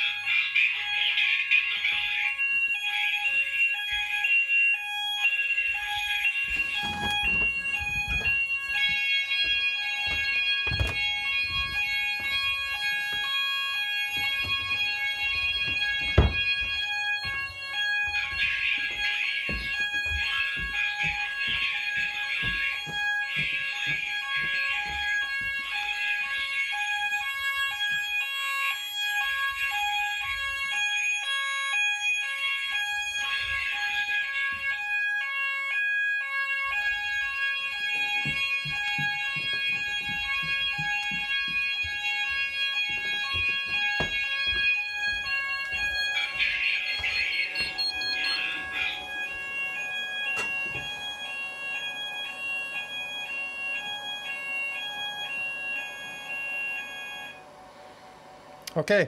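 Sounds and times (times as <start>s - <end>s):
warbling alarm tone: 0.0s - 57.5s
pulsing two-tone alarm: 0.0s - 57.6s
steady high alarm tone: 0.0s - 58.0s.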